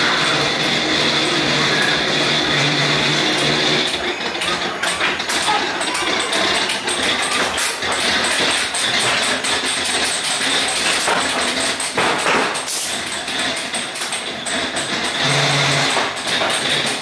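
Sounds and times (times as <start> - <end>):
ride car rattling on track: 0.0 - 17.0.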